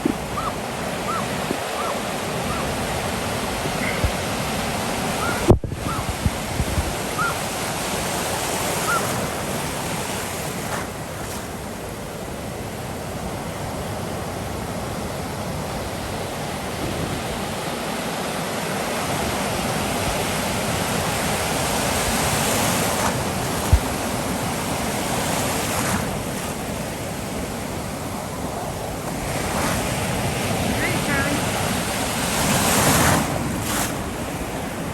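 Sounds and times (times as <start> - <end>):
wind on microphone: 0.0 - 11.6, 13.9 - 18.0, 19.0 - 34.9
ocean surf breaking: 0.0 - 34.9.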